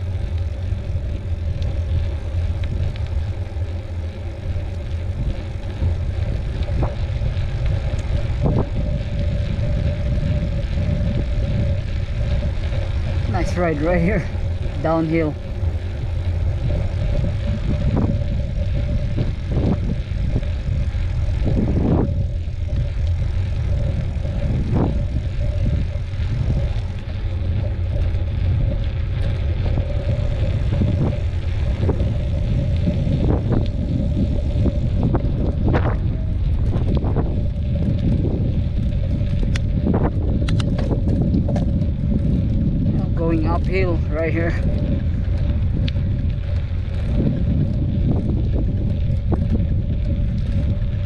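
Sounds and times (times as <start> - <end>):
bike tyres on dirt: 0.0 - 51.0
wind on microphone: 0.0 - 51.0.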